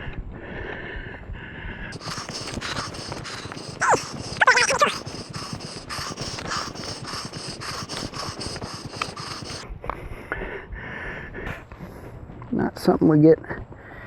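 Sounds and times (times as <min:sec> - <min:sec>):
person panting hard: 0:00.3 - 0:12.2, 0:13.7 - 0:14.0.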